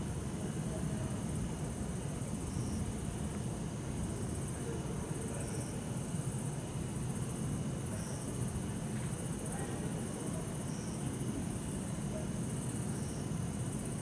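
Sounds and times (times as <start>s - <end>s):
crickets chirping: 0.0s - 14.0s
low rumble of traffic: 0.0s - 14.0s
high insect trill: 1.2s - 14.0s.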